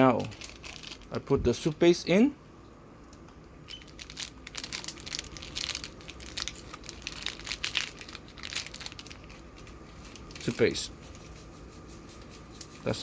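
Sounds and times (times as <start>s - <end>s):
irregular crackles: 0.0s - 1.9s, 3.0s - 12.9s
sachet crinkling: 0.0s - 2.0s, 3.6s - 13.0s.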